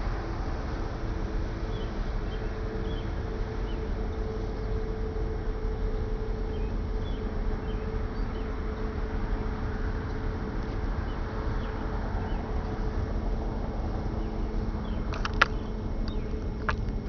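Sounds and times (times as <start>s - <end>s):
mid-pitched drone: 0.0s - 17.0s
ship machinery rumble: 0.0s - 17.0s
wind on microphone: 0.0s - 17.0s.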